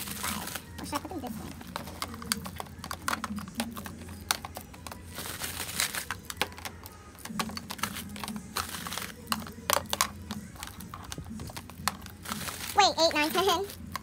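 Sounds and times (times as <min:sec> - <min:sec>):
plastic cases clicking: 0:00.0 - 0:14.0.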